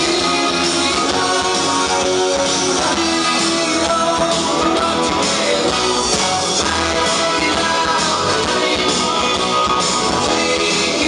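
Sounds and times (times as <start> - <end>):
rock and roll music: 0.0 - 11.0.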